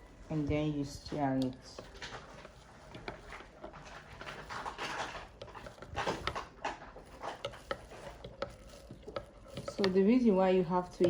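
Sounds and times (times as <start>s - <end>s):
liquid swishing: 0.0s - 11.0s.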